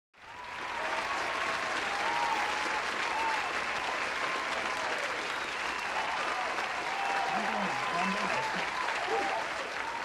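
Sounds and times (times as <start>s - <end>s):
audience applause: 0.2s - 10.0s.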